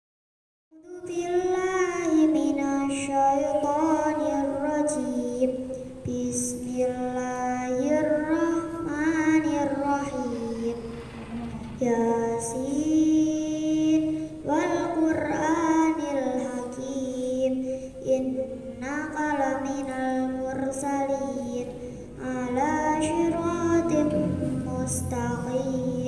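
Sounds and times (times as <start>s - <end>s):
girl chanting melodic recitation: 0.7s - 26.0s.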